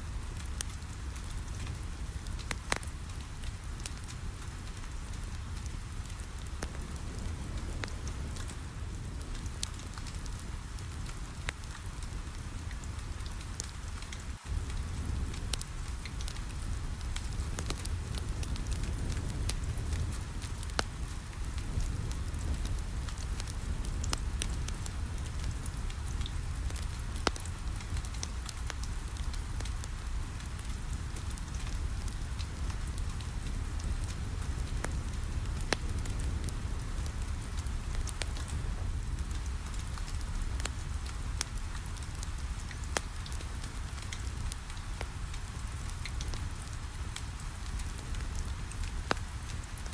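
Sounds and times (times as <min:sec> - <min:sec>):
rain on a window: 0:00.0 - 0:49.9
wood fire crackling: 0:00.0 - 0:49.9.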